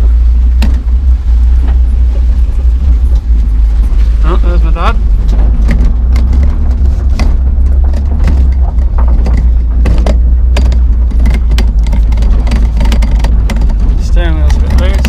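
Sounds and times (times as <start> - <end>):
car engine rumbling: 0.0 - 15.0
car rattling over gravel: 0.0 - 15.0.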